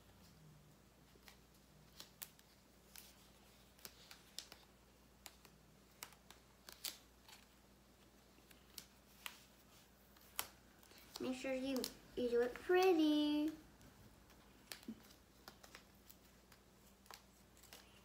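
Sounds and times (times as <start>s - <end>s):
paper backing peeling off stickers: 1.0s - 12.0s, 14.2s - 18.0s.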